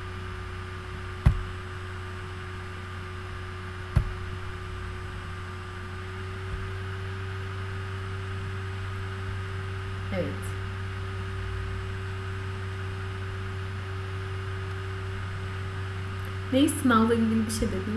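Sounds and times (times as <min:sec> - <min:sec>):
mains hum with faint hiss: 0:00.0 - 0:17.9.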